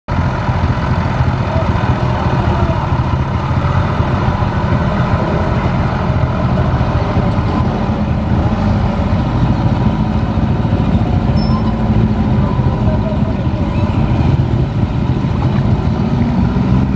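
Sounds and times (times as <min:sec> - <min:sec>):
low engine drone: 0:00.1 - 0:16.9
faint voices: 0:01.0 - 0:16.4.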